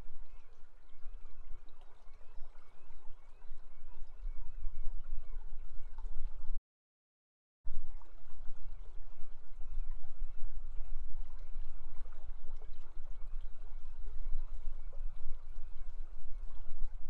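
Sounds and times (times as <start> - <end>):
river water over riffles: 0.0 - 6.6, 7.7 - 17.0.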